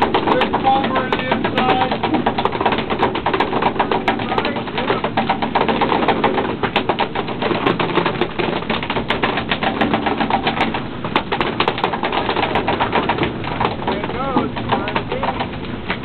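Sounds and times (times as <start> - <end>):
knocking and clattering on boat deck: 0.0 - 16.0.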